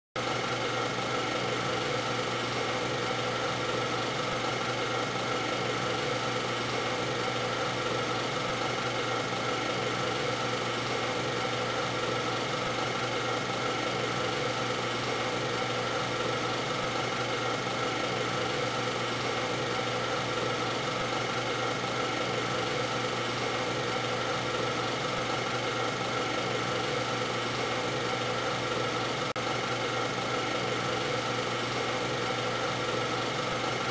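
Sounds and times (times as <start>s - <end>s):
film projector whirring: 0.2s - 33.9s.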